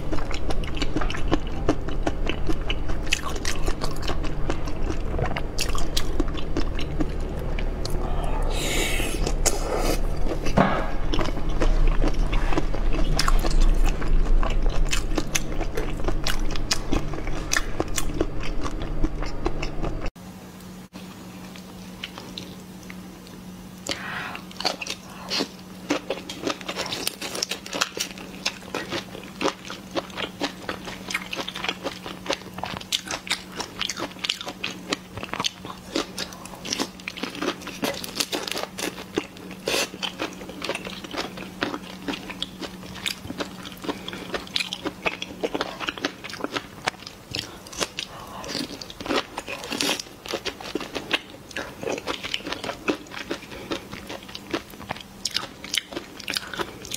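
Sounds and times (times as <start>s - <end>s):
chewing prawns with crunchy shells: 0.0s - 8.1s, 10.2s - 20.2s, 24.5s - 56.9s
low steady hum: 0.0s - 56.9s.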